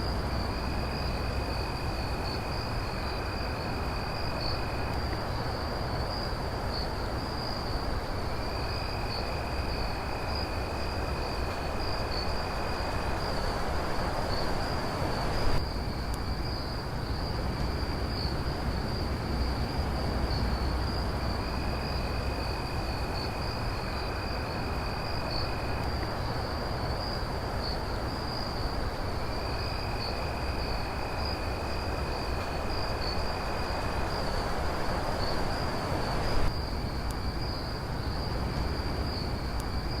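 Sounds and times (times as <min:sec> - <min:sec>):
crickets trilling: 0:00.0 - 0:40.0
lower-pitched insect trill: 0:00.0 - 0:40.0.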